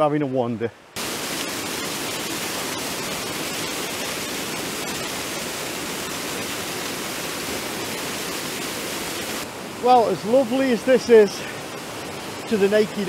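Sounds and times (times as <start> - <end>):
waterfall rushing over rocks: 0.9 - 13.0.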